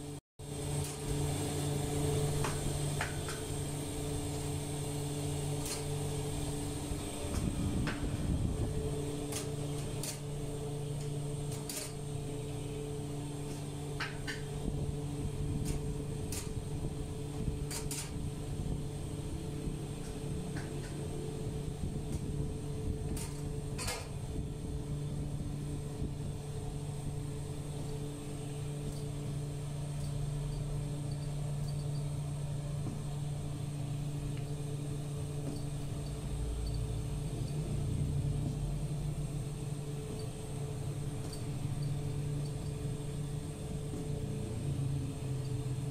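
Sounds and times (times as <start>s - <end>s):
motor humming: 0.0s - 45.9s.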